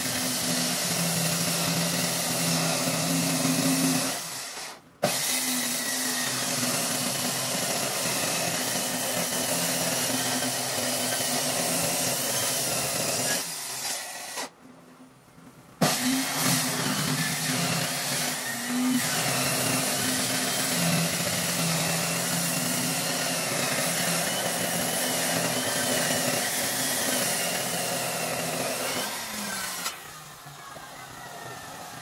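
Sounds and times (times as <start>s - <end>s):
circular saw cutting wood: 0.0s - 14.5s, 15.8s - 32.0s.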